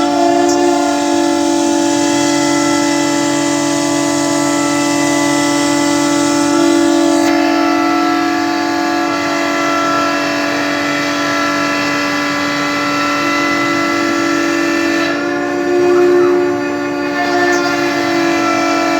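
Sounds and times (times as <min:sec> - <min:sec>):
bit milling plywood: 0:00.0 - 0:18.9
router spindle whining: 0:00.0 - 0:18.9.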